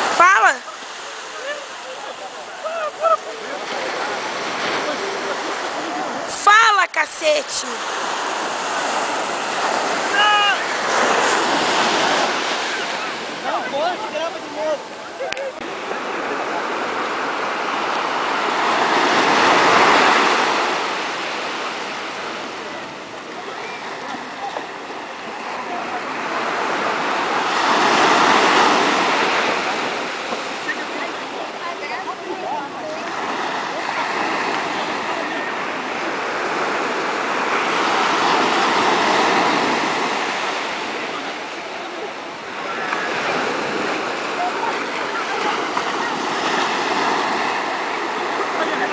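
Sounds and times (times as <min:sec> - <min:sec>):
surf breaking on shore: 0:00.0 - 0:48.9.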